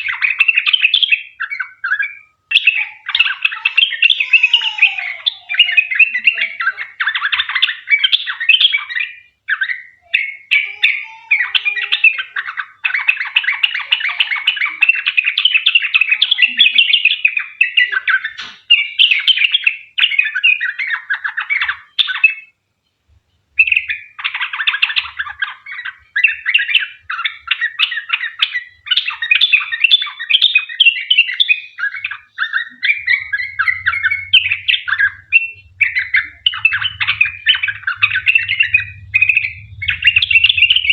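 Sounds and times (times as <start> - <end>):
bird singing chattering phrases: 0.0 - 22.6, 23.6 - 40.9.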